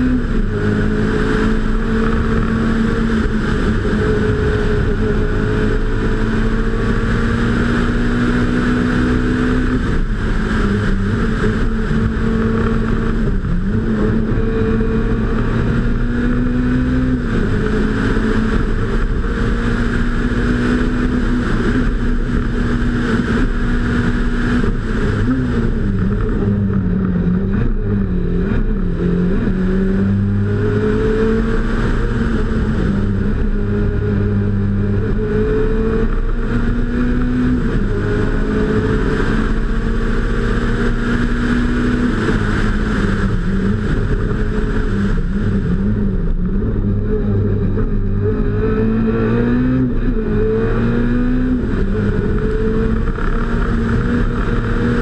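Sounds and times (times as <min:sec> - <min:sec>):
rally car engine at high revs: 0:00.0 - 0:55.0.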